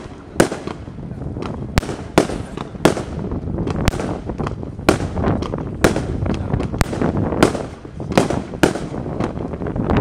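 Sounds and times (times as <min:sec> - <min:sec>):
firework pops: 0:00.0 - 0:09.7
firework bangs: 0:00.0 - 0:10.0.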